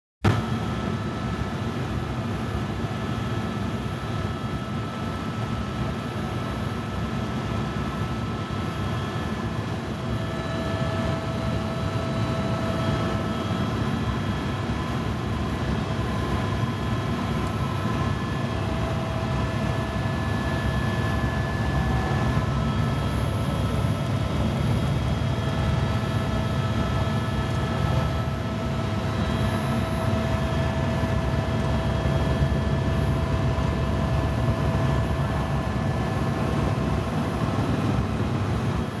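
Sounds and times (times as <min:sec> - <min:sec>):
helicopter rotor and engine rumble: 0:00.3 - 0:39.0.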